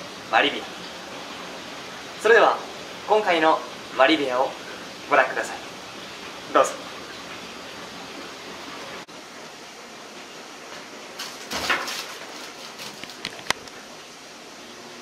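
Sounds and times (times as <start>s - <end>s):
room hiss: 0.0s - 15.0s.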